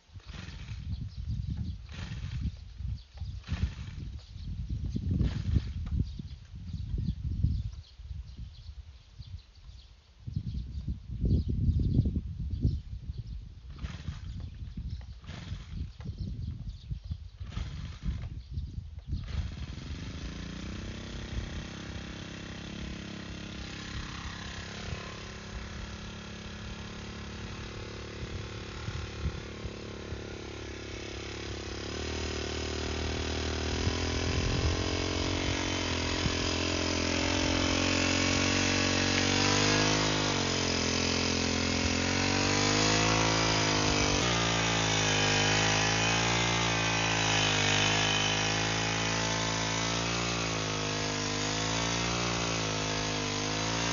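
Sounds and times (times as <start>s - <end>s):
small engine running and revving: 0.0s - 7.1s, 13.2s - 53.9s.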